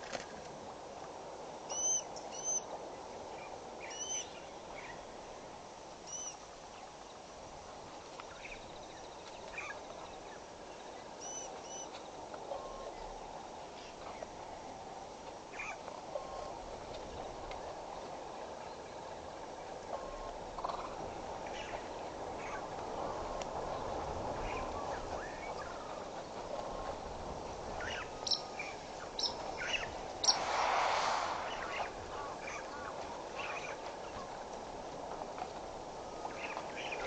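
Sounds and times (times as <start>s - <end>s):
steady background hiss: 0.0s - 37.0s
wild birds chirping: 1.7s - 7.5s, 8.2s - 14.9s, 15.5s - 27.1s, 27.7s - 37.0s.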